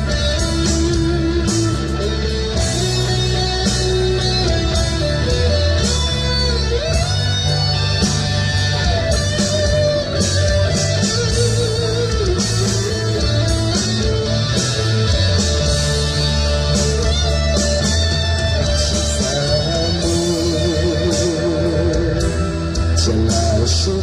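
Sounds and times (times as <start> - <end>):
drum beat with cymbals: 0.0 - 24.0
pop song with electric guitar: 0.0 - 24.0.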